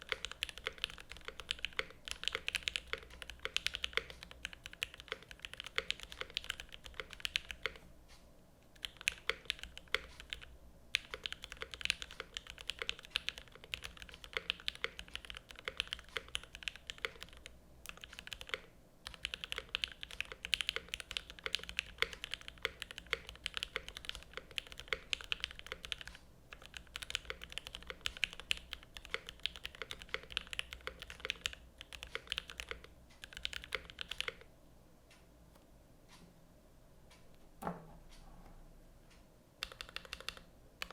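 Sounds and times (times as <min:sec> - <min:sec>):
mechanical keyboard typing: 0:00.0 - 0:07.8, 0:08.7 - 0:34.5, 0:39.6 - 0:40.9.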